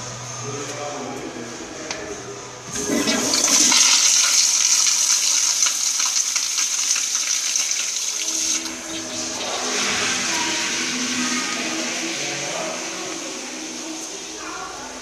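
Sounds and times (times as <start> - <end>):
toilet flushing: 2.6 - 15.0.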